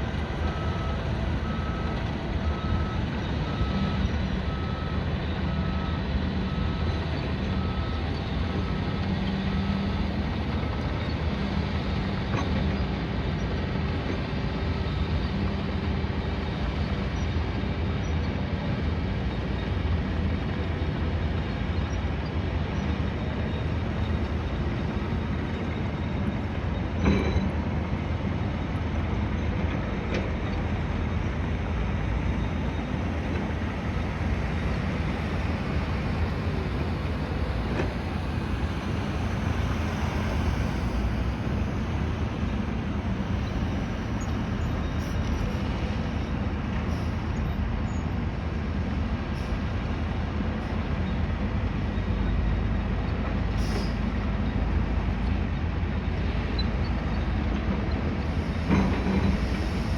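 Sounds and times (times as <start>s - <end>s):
construction and city rumble: 0.0s - 59.9s.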